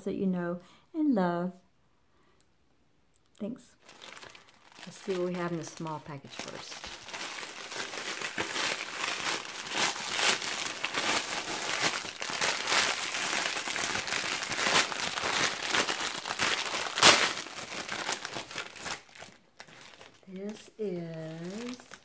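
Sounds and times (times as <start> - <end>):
plastic bag crinkling: 3.7 - 22.0.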